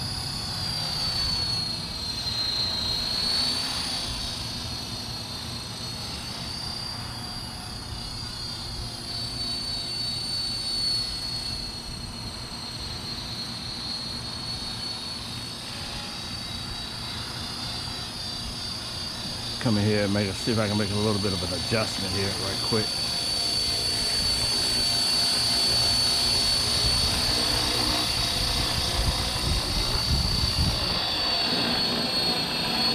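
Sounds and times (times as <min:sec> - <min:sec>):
rc helicopter high-pitched whine: 0:00.0 - 0:32.9.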